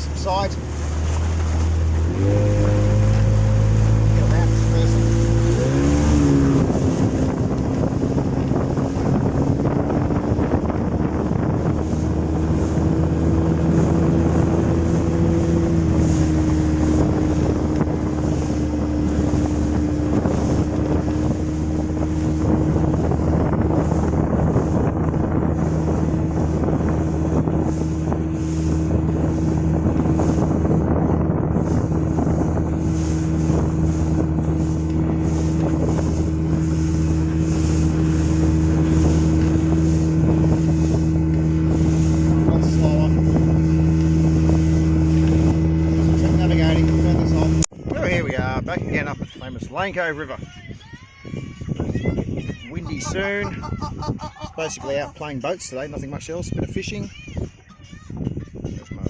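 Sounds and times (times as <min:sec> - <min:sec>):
water rushing past: 0:00.0 - 0:47.7, 0:52.8 - 0:55.3
motorboat engine running: 0:00.0 - 0:50.4, 0:51.2 - 0:59.0
wind buffeting microphone: 0:00.0 - 0:59.0.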